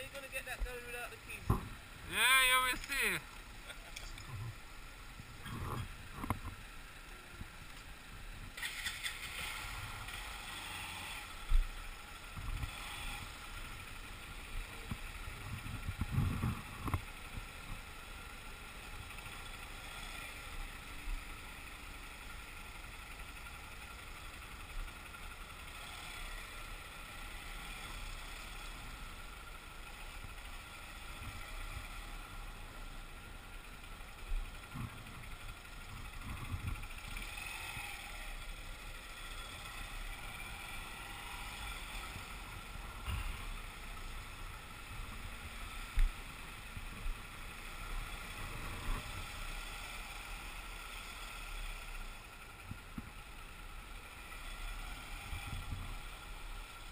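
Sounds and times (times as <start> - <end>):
motorcycle engine and road noise: 0.0 - 56.9.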